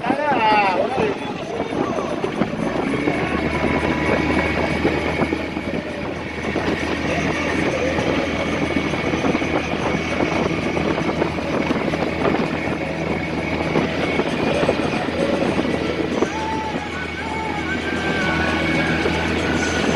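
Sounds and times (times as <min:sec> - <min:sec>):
speedboat engine running: 0:00.0 - 0:19.9.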